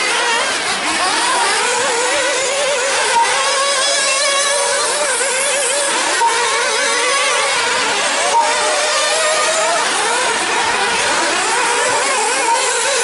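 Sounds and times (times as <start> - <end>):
model car engines whining: 0.0 - 13.0.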